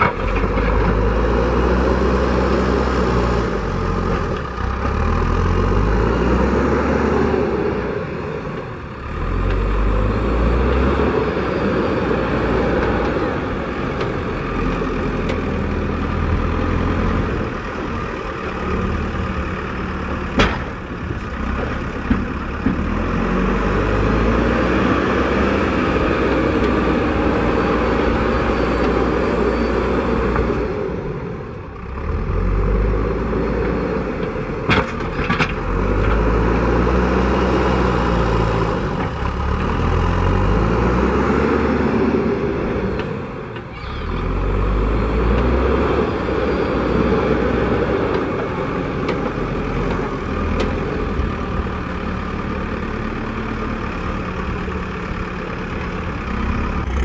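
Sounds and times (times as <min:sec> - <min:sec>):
diesel engine revving under load: 0:00.0 - 0:57.0.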